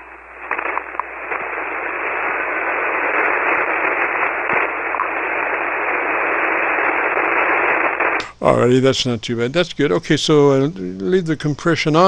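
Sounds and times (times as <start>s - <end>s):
radio hiss: 0.0s - 12.0s.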